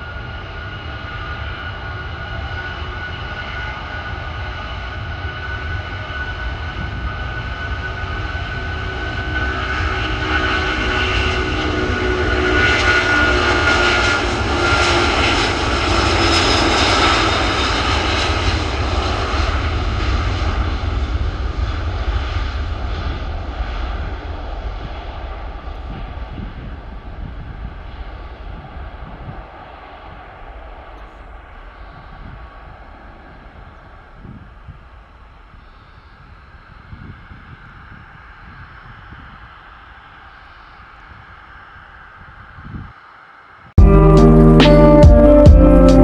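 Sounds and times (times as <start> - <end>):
jet engines passing by: 0.0 - 42.7.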